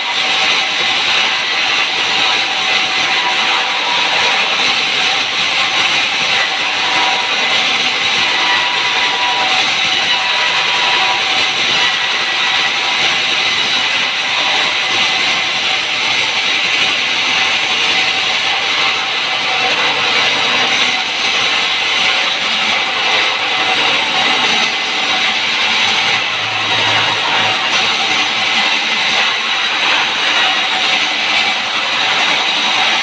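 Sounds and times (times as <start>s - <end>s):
sawmill saw cutting wood: 0.0s - 33.0s.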